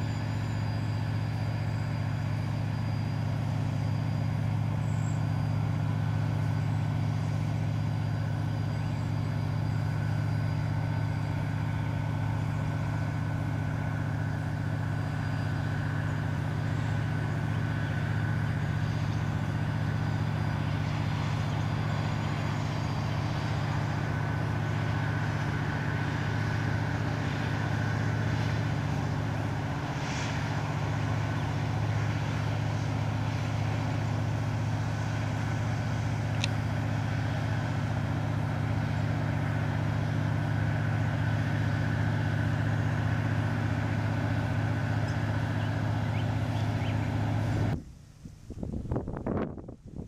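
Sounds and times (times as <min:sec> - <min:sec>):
tugboat diesel engine droning: 0:00.0 - 0:50.0.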